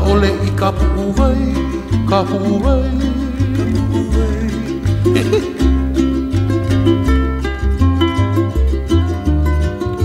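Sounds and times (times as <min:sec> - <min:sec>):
plucked strings music: 0:00.0 - 0:10.0
sliding melody line: 0:00.0 - 0:10.0.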